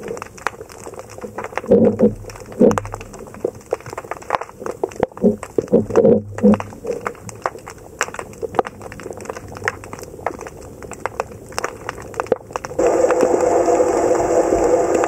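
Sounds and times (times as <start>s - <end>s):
underwater crackling clicks: 0.0s - 13.2s.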